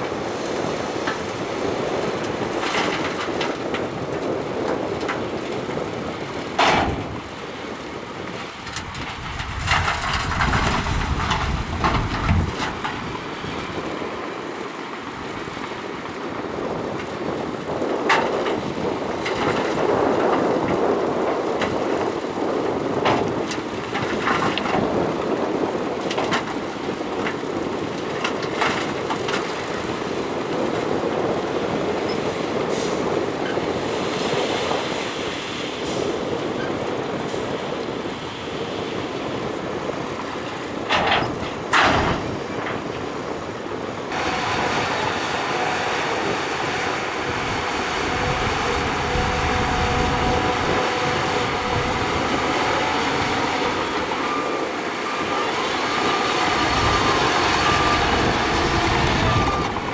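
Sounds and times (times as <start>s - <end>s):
bulldozer diesel engine under load: 0.0s - 59.9s
steel tracks clanking: 0.0s - 59.9s.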